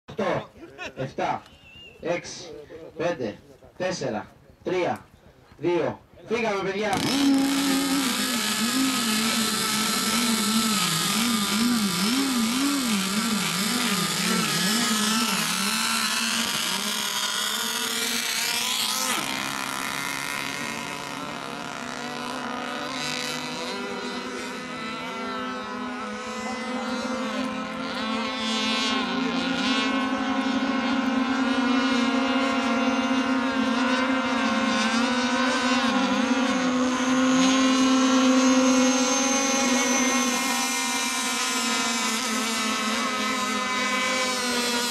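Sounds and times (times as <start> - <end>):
racing boat engines: 0.1 - 44.9.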